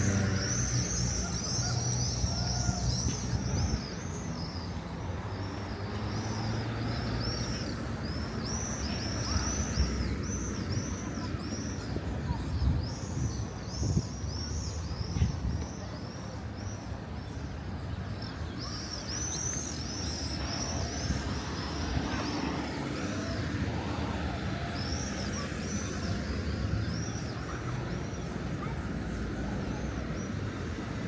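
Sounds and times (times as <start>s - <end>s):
low rumble of town noise: 0.0s - 31.0s.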